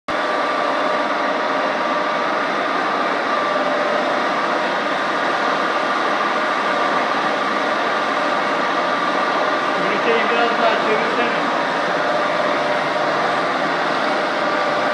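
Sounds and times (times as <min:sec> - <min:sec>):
machine whine: 0:00.1 - 0:14.9
workshop machinery humming: 0:00.1 - 0:14.9.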